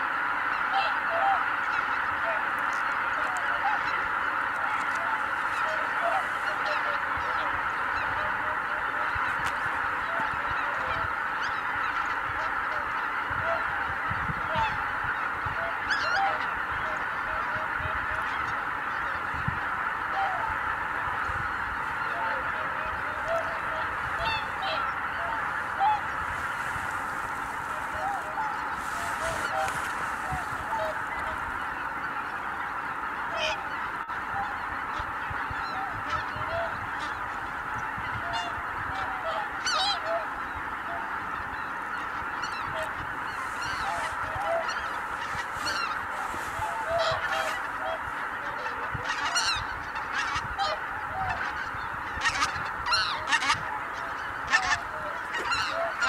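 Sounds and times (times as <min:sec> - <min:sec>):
flock of geese honking: 0:00.0 - 0:56.0
single nearer goose calls: 0:00.0 - 0:56.0.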